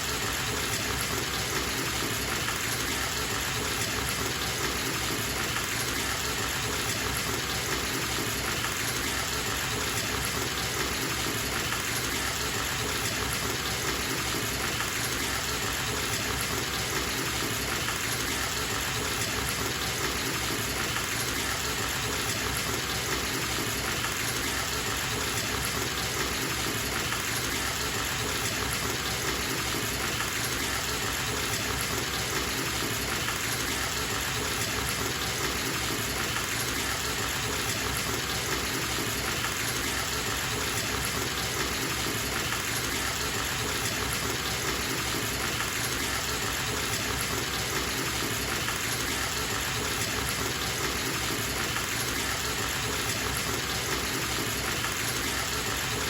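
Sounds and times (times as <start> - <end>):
water gushing from bathtub tap: 0.1 - 56.0.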